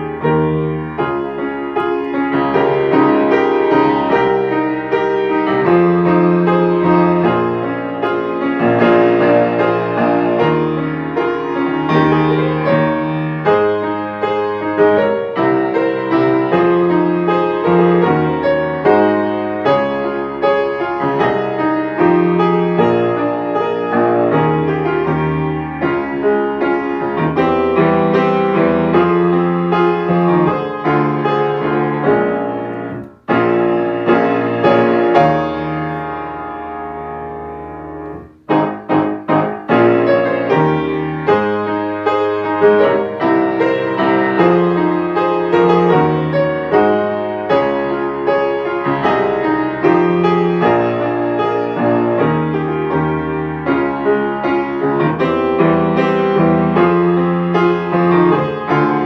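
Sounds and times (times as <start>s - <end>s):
piano playing chords: 0.0s - 59.0s.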